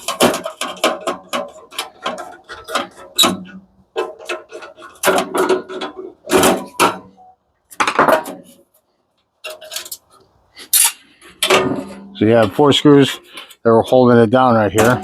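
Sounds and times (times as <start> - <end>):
metal parts clanking and scraping: 0.0 - 15.0.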